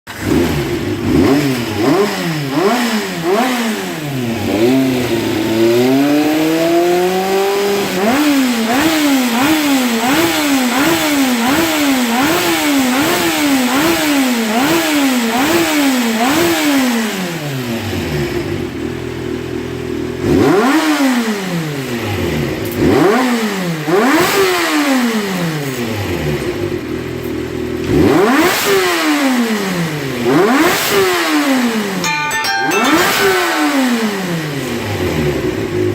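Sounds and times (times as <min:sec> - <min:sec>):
motorcycle engine revving: 0:00.1 - 0:32.0, 0:32.9 - 0:35.9.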